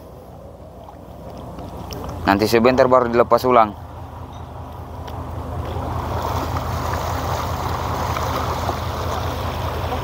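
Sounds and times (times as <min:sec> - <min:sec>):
boat engine throbbing: 0:00.0 - 0:10.0
sea water splashing past hull: 0:00.0 - 0:10.0.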